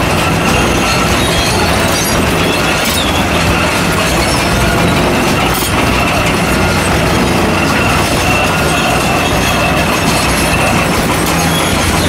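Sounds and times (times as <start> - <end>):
rock ripper metallic rattling: 0.0 - 12.0
thin high whine: 0.0 - 12.0.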